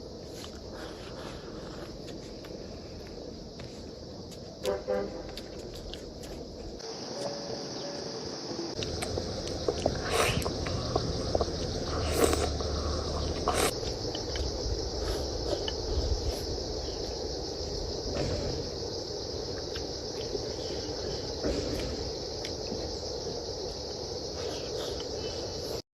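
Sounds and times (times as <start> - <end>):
insects chirring: 0.0 - 25.8.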